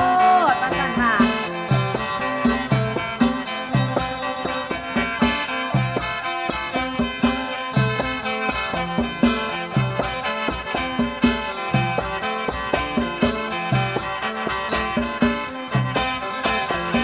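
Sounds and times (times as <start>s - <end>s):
band playing instrumental: 0.0s - 17.0s
steady drum beat: 0.0s - 17.0s
ticking percussion: 0.0s - 17.0s.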